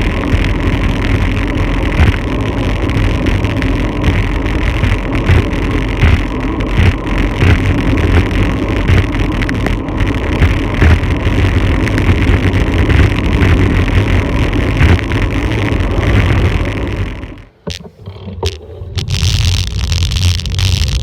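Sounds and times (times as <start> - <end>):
low irregular rumbling: 0.0 - 21.0.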